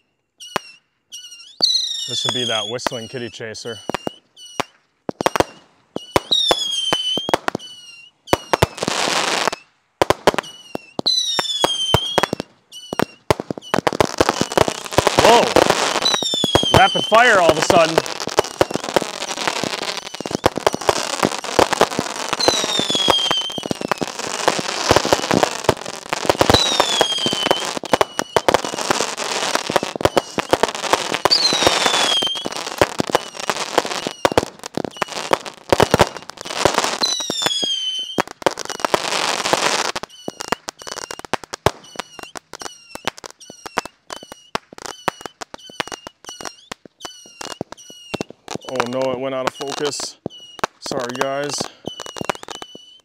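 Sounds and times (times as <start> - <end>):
falling firework whistle: 0.0 - 53.0
fireworks crackling and popping: 0.4 - 53.0.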